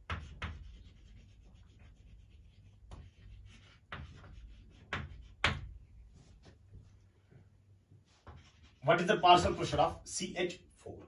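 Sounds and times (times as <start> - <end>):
faint scratching writing strokes: 0.0 - 10.0.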